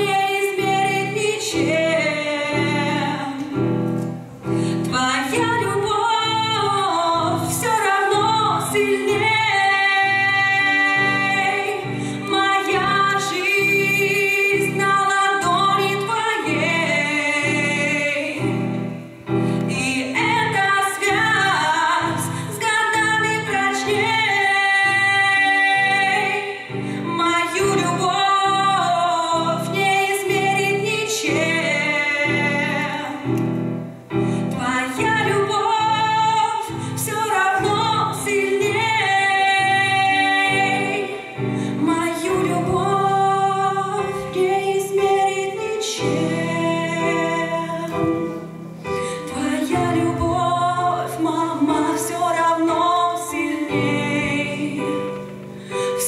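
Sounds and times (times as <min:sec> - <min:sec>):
woman singing: 0:00.0 - 0:03.8, 0:04.7 - 0:33.5, 0:34.4 - 0:56.0
digital piano chords: 0:00.0 - 0:56.0.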